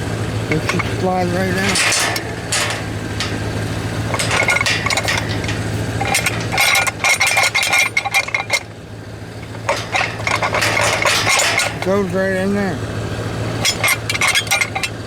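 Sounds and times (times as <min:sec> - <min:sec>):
low hum: 0:00.0 - 0:15.0
metal gate bar clinking and scraping: 0:00.5 - 0:12.2, 0:13.5 - 0:15.0.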